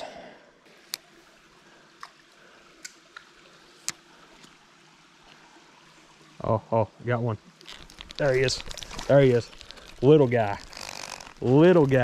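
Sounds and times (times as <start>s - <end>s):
trickle of a small stream: 0.6s - 12.0s.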